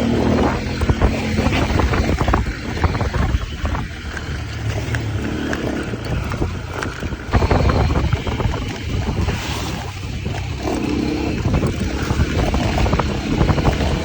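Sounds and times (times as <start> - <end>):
dirt bike engine under load: 0.0 - 14.0
wind buffeting microphone: 0.0 - 14.0.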